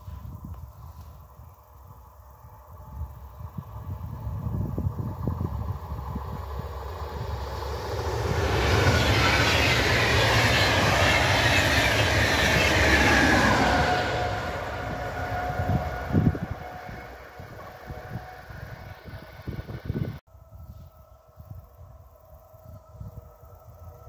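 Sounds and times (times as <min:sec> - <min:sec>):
wind buffeting microphone: 0:00.0 - 0:22.0
train passing at speed: 0:00.8 - 0:24.0.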